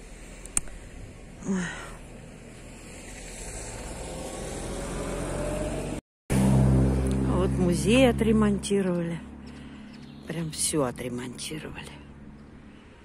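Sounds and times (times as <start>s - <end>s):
vehicle engine approaching: 0.0s - 13.0s.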